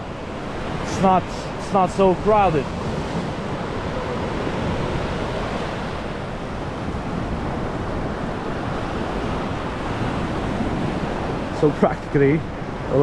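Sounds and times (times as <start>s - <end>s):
surf washing up a sandy shore: 0.0s - 13.0s
wind on microphone: 0.0s - 13.0s.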